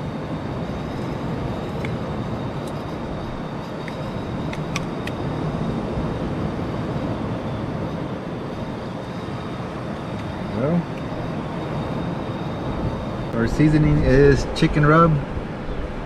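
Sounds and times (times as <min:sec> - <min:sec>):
surf rumble: 0:00.0 - 0:16.0
wind: 0:00.0 - 0:16.0.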